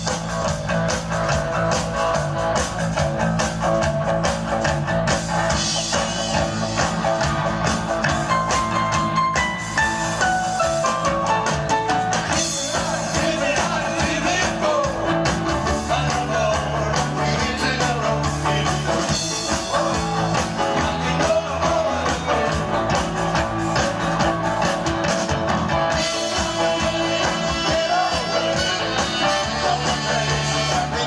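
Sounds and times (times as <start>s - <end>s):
rock music with guitar: 0.0s - 31.0s.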